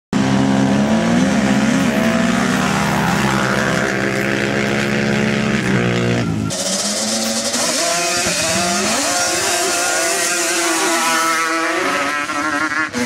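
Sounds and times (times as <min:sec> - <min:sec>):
atv engines at full throttle: 0:00.2 - 0:13.0.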